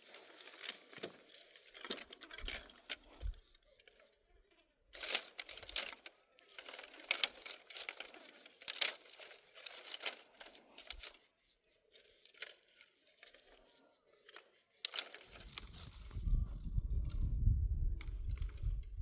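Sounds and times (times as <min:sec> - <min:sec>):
crackling and rustling: 0:00.0 - 0:19.0.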